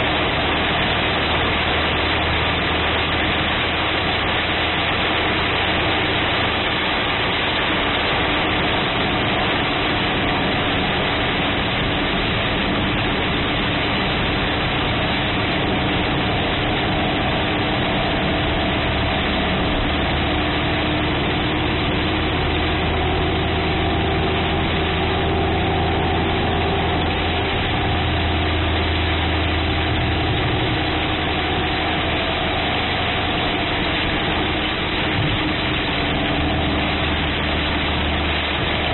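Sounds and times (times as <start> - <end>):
car engine idling: 0.0 - 38.9
heavy rain on car roof: 0.0 - 38.9.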